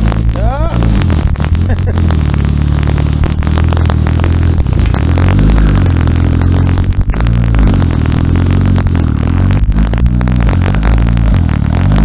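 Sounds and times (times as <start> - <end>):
rattly car engine revving: 0.0 - 12.0.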